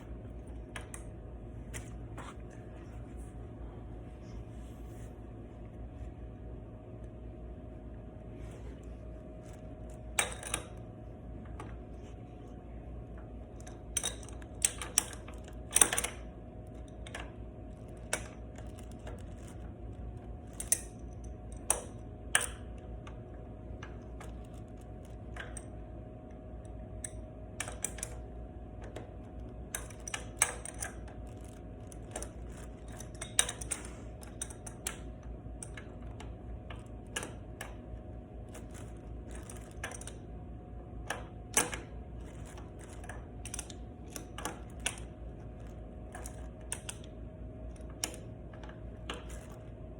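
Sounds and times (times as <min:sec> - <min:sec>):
faint hum: 0:00.0 - 0:49.9.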